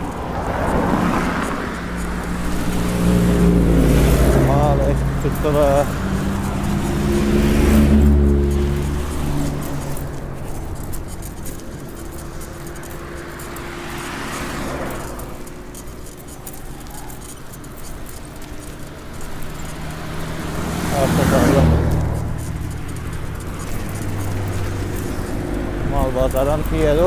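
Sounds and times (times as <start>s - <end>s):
cars driving past: 0.0s - 27.0s
tyre noise: 0.0s - 27.0s.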